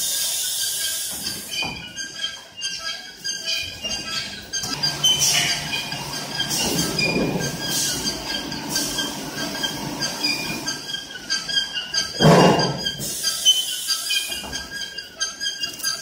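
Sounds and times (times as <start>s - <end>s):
filling machinery squeaking: 0.0s - 16.0s
short high squeals: 0.0s - 16.0s.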